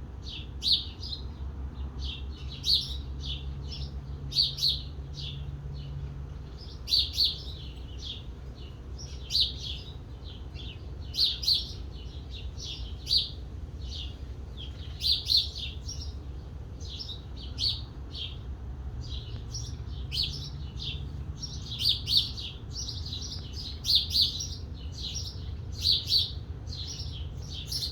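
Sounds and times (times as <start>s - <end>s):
bird chirping: 0.2s - 1.4s, 2.0s - 27.9s.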